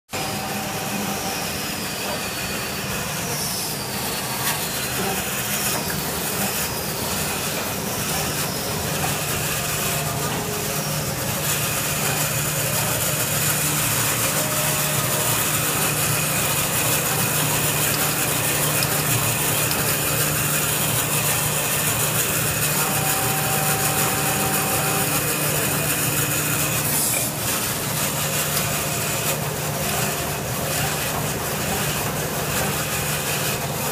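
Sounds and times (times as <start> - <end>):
cutting machine running: 0.2 - 33.9.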